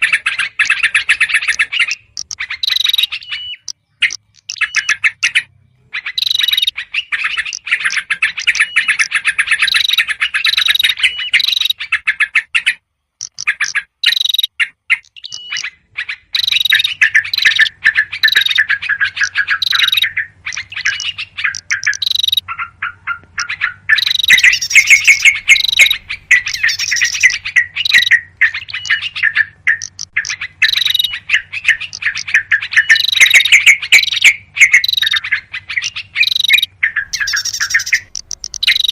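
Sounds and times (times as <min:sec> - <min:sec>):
bulbuls chattering: 0:00.0 - 0:38.9.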